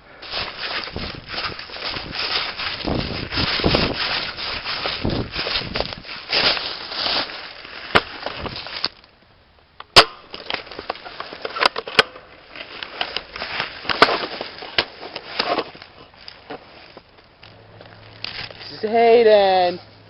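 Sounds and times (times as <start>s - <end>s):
rustling: 0.0s - 9.2s, 10.2s - 20.0s.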